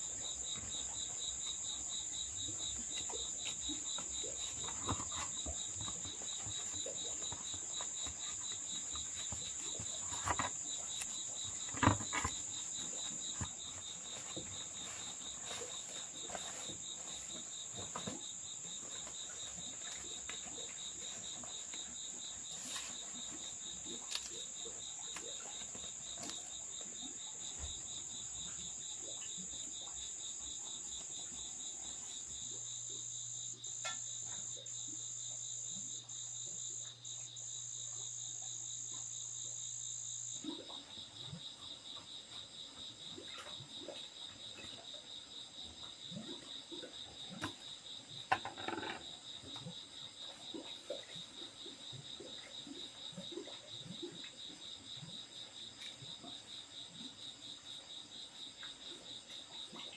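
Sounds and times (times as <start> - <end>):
insects trilling and buzzing: 0.0 - 59.9.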